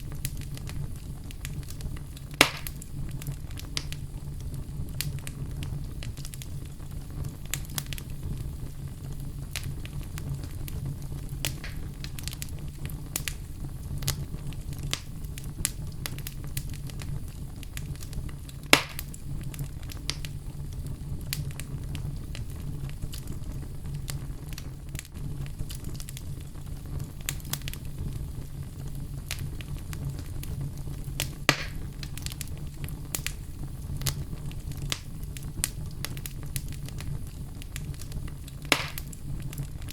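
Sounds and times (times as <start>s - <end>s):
fire popping and snapping: 0.0s - 39.9s
low rumble of flame: 0.0s - 39.9s
wood fire crackling: 0.0s - 39.9s.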